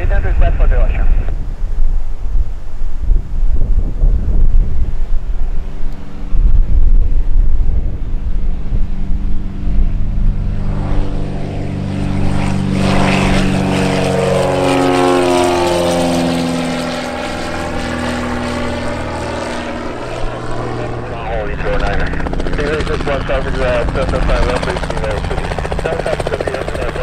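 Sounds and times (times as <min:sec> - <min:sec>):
propeller engines droning: 0:00.0 - 0:27.0.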